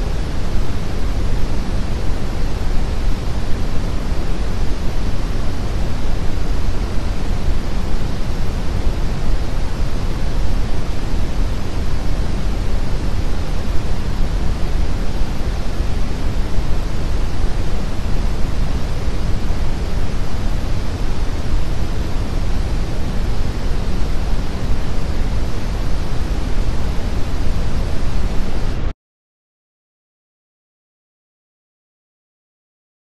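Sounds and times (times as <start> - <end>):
tape hiss: 0.0 - 28.9.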